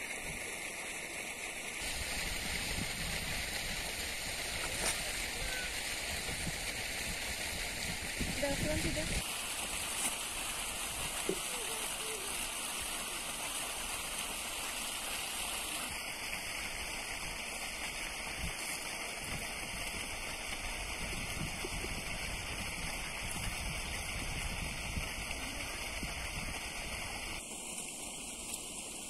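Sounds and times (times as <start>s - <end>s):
flowing water rushing: 0.0s - 29.0s.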